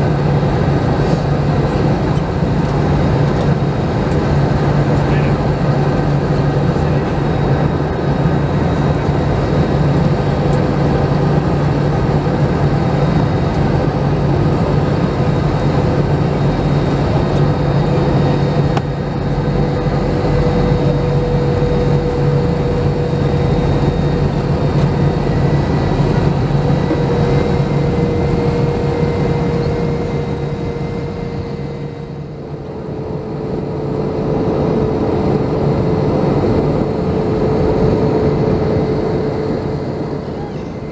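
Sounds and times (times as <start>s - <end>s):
airplane cabin engine roar: 0.0s - 40.9s
jet engine whine: 0.0s - 40.9s
steady low hum: 0.0s - 40.9s.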